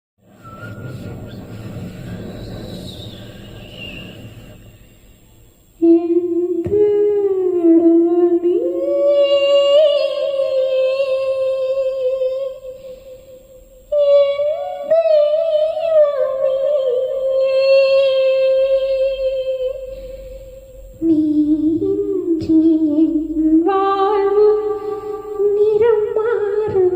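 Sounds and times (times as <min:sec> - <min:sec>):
voices holding long wavering notes: 0:00.3 - 0:26.6.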